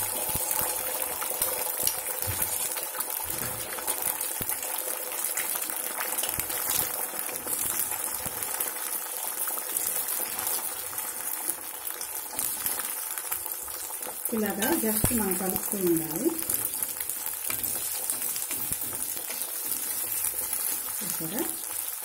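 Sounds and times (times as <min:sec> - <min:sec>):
eggs sizzling in oil: 0:00.0 - 0:22.0.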